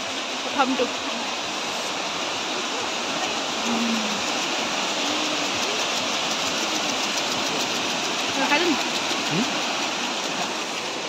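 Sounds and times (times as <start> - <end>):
waterfall rushing: 0.0 - 11.0
faint voices: 1.8 - 11.0.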